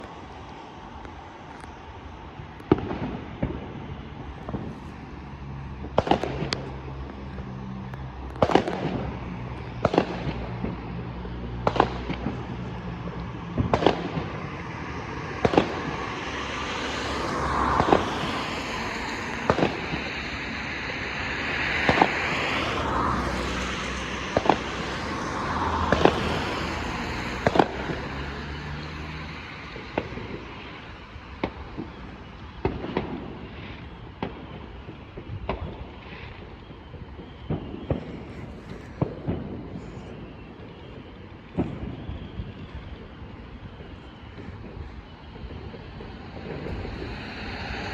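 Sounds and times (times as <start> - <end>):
broad rushing noise: 0.0 - 34.4, 35.7 - 47.9
fireworks bangs: 0.0 - 47.9.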